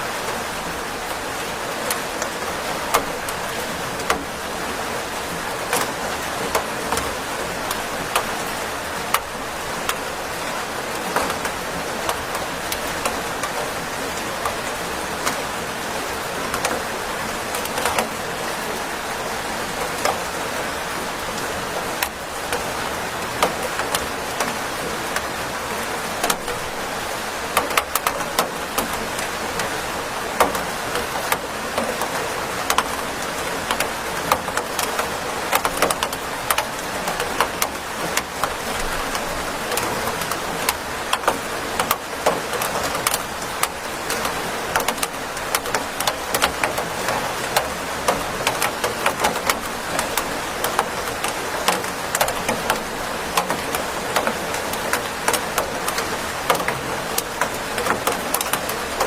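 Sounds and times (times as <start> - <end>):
steady rain hiss: 0.0 - 59.0
raindrops ticking: 0.2 - 59.0.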